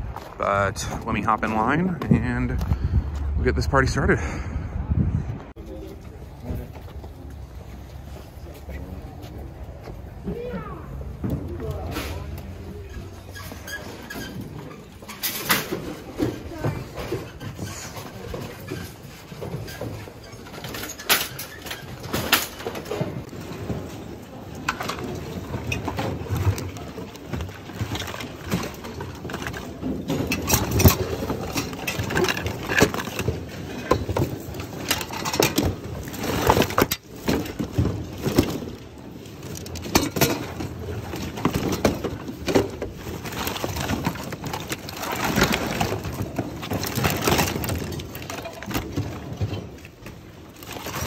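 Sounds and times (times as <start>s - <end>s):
objects clattering and rustling: 5.4s - 51.0s.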